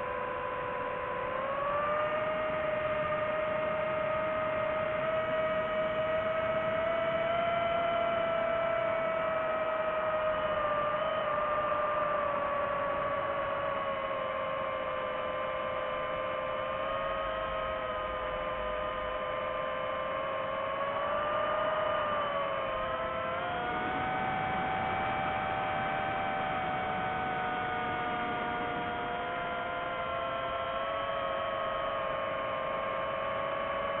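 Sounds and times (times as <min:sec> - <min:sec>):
drone motors whining: 0:00.0 - 0:34.0.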